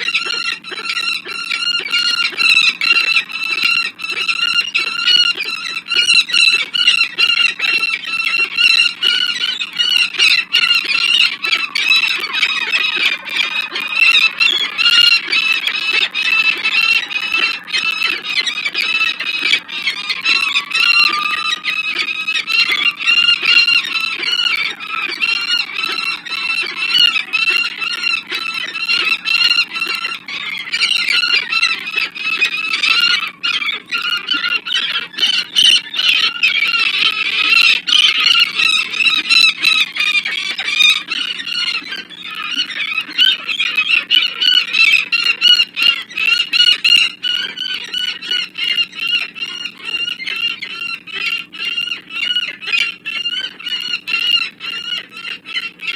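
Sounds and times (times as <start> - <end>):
falcons calling: 0.0 - 55.9.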